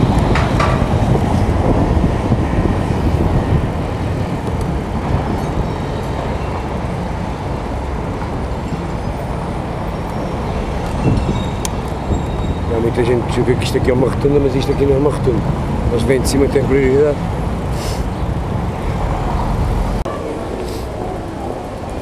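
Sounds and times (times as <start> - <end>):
wind noise: 0.0 - 20.0
road noise: 0.0 - 22.0.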